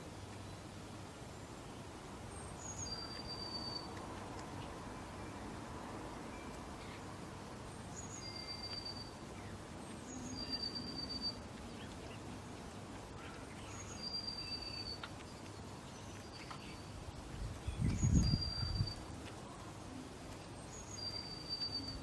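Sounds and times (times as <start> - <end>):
faint outdoor background noise: 0.0 - 22.0
songbird singing: 0.0 - 22.0.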